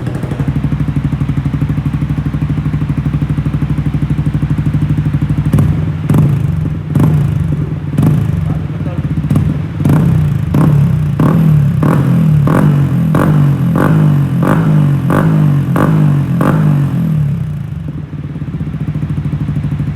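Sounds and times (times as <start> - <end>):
motorcycle engine idling: 0.0 - 19.9
motorcycle engine throttle blips: 0.0 - 19.9.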